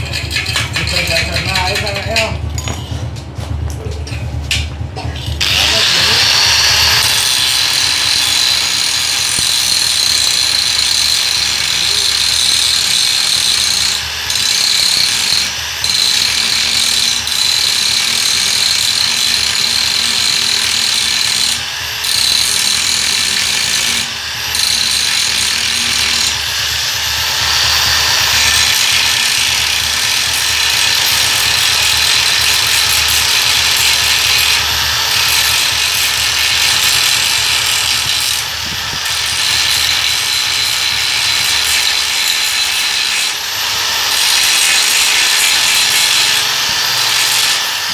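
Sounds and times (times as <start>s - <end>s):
angle grinder grinding metal: 0.0s - 2.4s, 5.0s - 47.9s.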